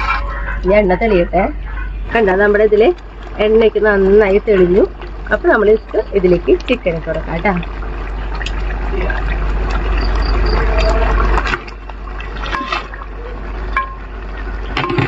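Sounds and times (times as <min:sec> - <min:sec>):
thick gravy bubbling: 0:00.0 - 0:15.0.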